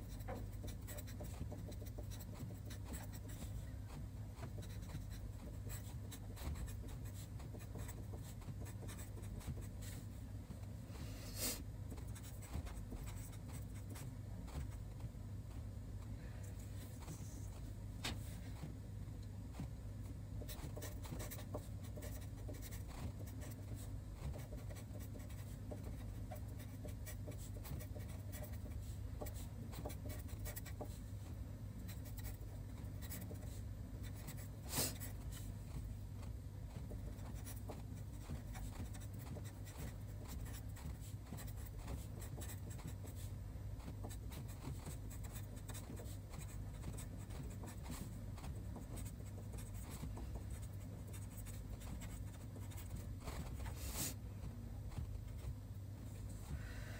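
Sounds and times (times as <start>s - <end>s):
pen scratching on paper: 0.0s - 10.0s, 11.5s - 15.7s, 20.4s - 31.0s, 31.9s - 54.2s
faint low hum: 0.0s - 56.9s.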